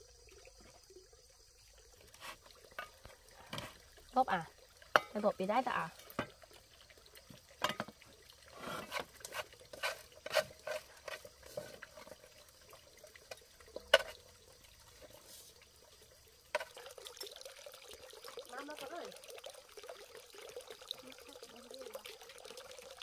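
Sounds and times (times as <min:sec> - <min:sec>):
water splashing: 0:01.8 - 0:23.0.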